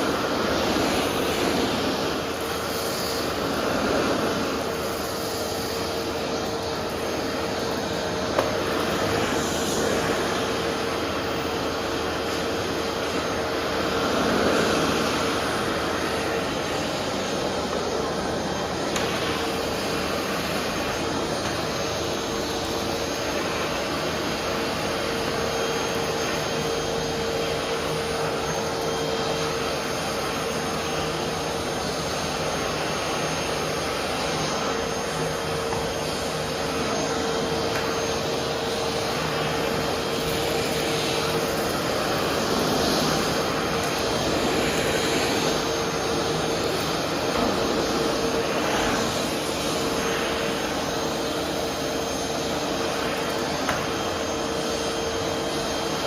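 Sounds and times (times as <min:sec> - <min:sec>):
vacuum cleaner humming: 0:00.0 - 0:56.0.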